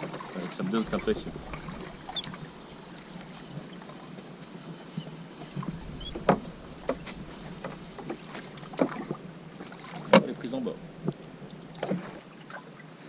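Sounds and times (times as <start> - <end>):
water lapping at boat hull: 0.0 - 13.0.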